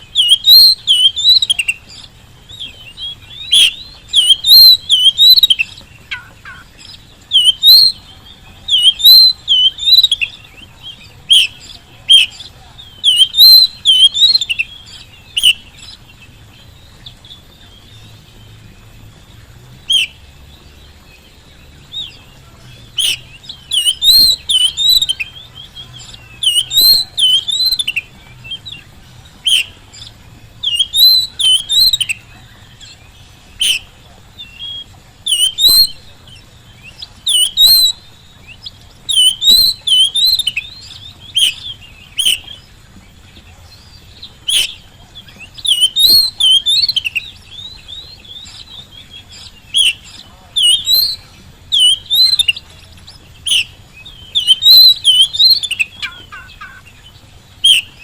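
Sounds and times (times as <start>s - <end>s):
bird singing whistles and chirps: 0.0s - 58.0s.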